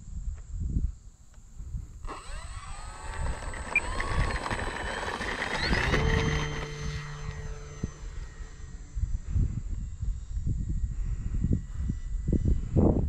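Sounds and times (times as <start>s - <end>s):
wind rumble on microphone: 0.0s - 13.0s
model plane propeller whine: 2.0s - 13.0s.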